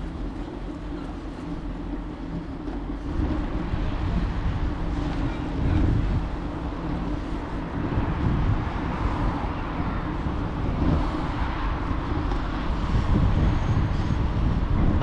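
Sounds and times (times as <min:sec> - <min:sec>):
low road noise rumble: 0:00.0 - 0:15.0
wind buffeting microphone: 0:00.0 - 0:15.0.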